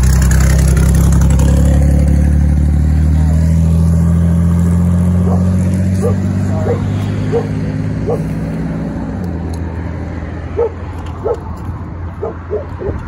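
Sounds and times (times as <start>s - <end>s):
vehicle engine pulling away: 0.0s - 13.0s.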